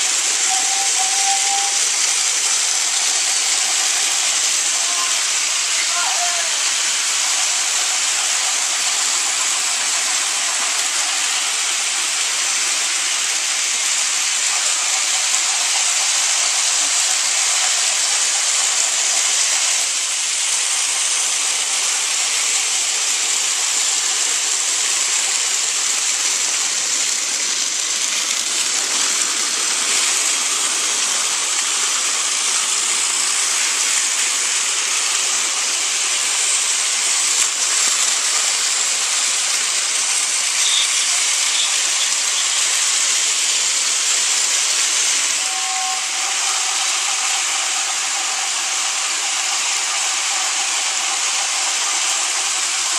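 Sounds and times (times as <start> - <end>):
toy train motors whirring: 0.0 - 52.9.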